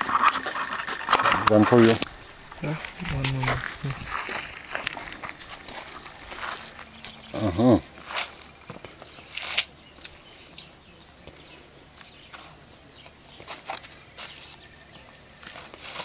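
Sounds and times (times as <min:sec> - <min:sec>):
footsteps crunching on gravel: 0:00.0 - 0:10.3, 0:11.2 - 0:16.0.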